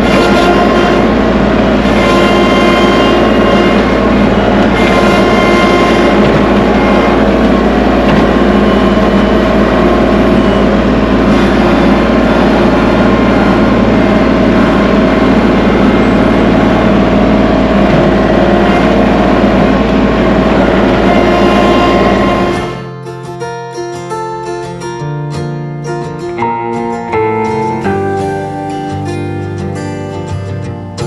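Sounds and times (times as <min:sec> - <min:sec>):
tractor diesel engine running: 0:00.0 - 0:23.4, 0:26.1 - 0:31.0.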